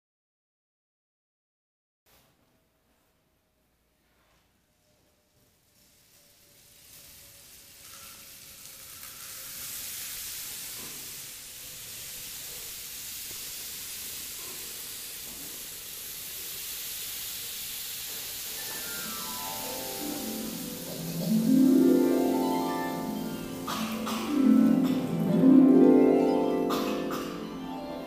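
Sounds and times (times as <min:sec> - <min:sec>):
steady background hiss: 0:02.1 - 0:28.0.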